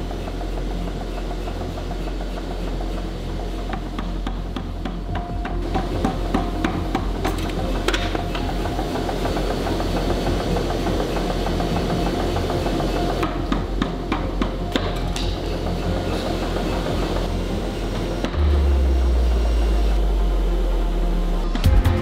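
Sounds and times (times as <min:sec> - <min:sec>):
low drone of shop equipment: 0:00.0 - 0:22.0.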